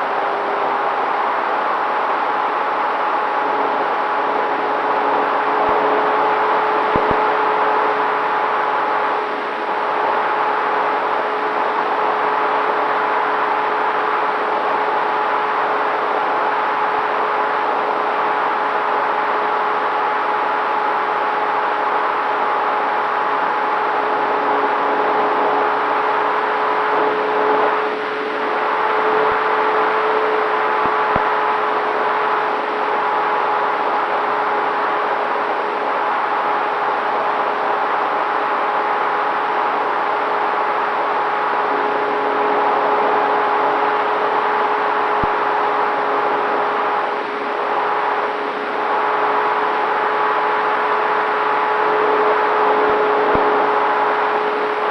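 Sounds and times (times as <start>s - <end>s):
electric motor and propeller hum: 0.1s - 54.9s.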